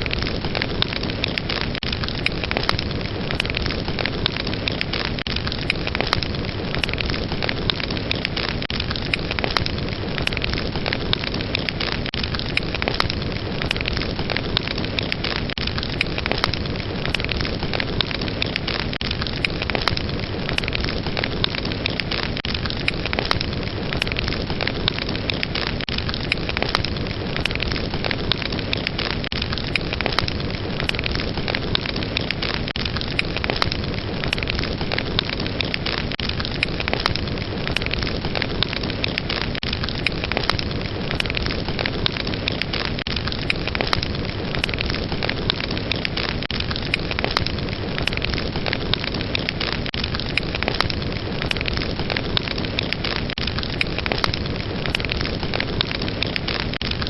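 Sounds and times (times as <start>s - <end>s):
fire crackles and pops: 0.0s - 57.0s
fireplace fire rushing: 0.0s - 57.0s.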